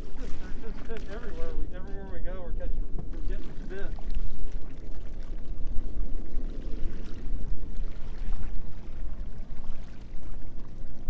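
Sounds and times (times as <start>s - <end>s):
water splashing and pouring: 0.0s - 2.3s, 3.1s - 11.0s
wind rumbling on microphone: 0.0s - 11.0s.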